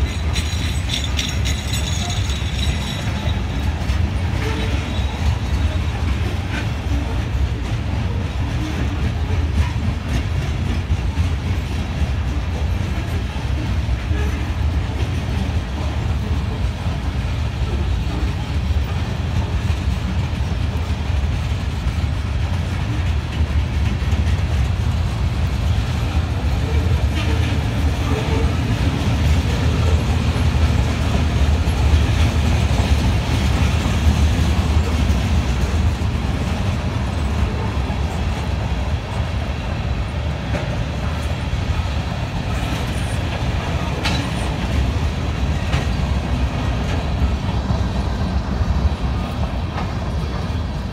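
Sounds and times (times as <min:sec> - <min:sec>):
train wheels rolling on rails: 0:00.0 - 0:50.9.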